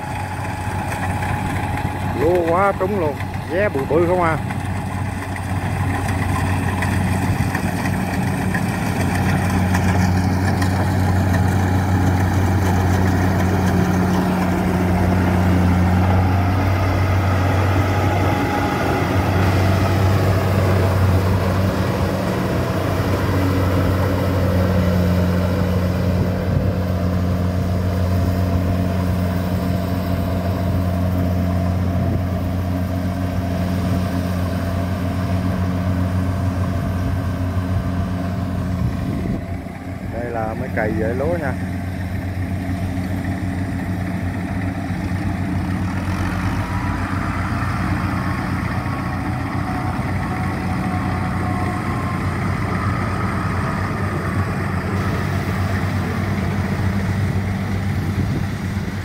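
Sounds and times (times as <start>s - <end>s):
combine harvester engine running: 0.0s - 59.0s
machinery noise: 0.0s - 59.0s.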